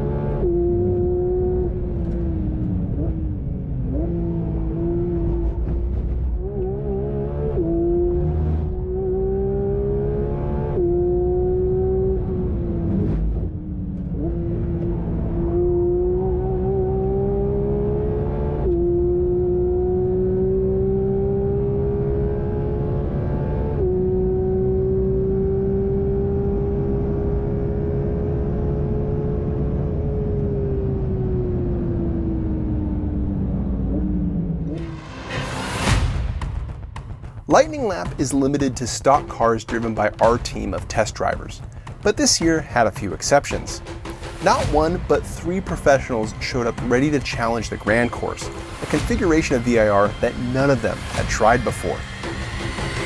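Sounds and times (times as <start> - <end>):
car engine at full throttle: 0.0 - 53.0.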